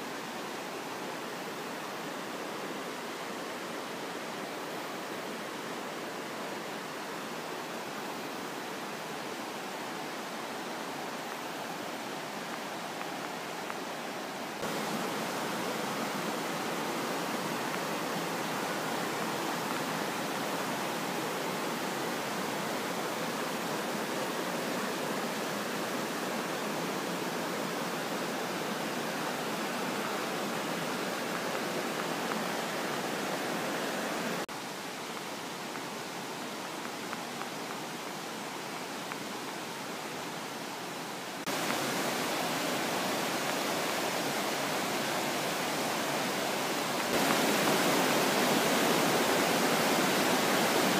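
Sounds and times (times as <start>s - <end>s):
waterfall and stream rushing: 0.0s - 50.9s.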